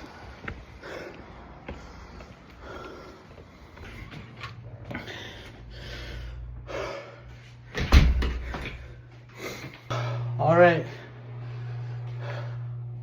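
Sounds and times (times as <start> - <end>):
man breathing hard: 0.0 - 10.3, 10.9 - 13.0
low steady hum: 0.0 - 13.0.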